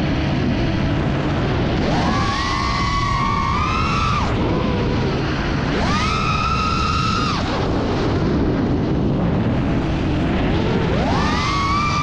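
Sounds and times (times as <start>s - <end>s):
drone motors whining: 0.0s - 12.0s
low rushing noise: 0.0s - 12.0s.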